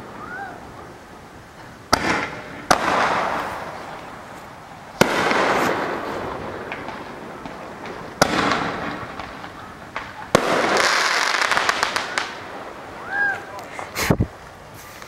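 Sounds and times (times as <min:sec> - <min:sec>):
crackling hiss: 0:00.0 - 0:15.0
fireworks bangs: 0:00.0 - 0:15.0.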